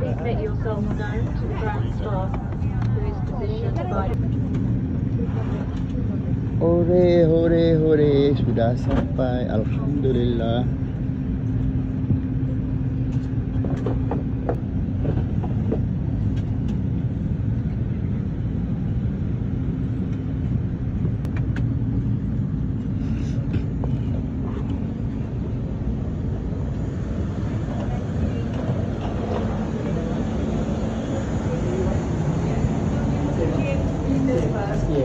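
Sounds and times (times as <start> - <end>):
aircraft cabin rumble: 0.0 - 35.0
constant hum: 0.0 - 35.0.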